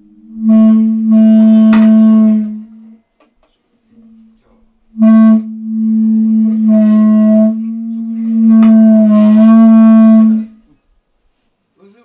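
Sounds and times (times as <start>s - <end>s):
sustained instrumental note: 0.0s - 3.0s, 3.9s - 10.6s.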